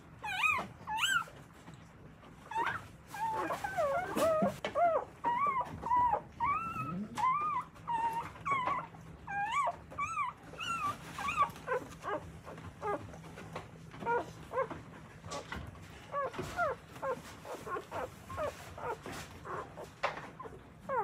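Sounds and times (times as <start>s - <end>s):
puppies squeaking and whimpering: 0.0s - 21.0s.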